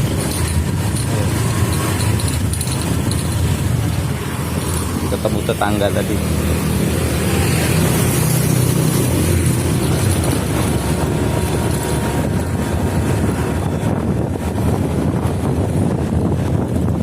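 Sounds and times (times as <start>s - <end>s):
scooter engine running: 0.0s - 17.0s
wind rushing over microphone: 0.0s - 17.0s.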